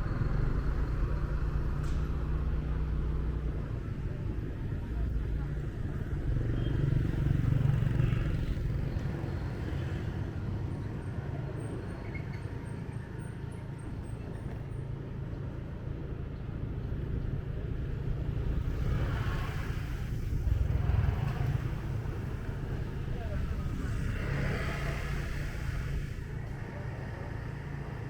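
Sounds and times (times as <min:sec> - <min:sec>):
street traffic: 0:00.0 - 0:28.0
tyre and road noise: 0:00.0 - 0:28.0.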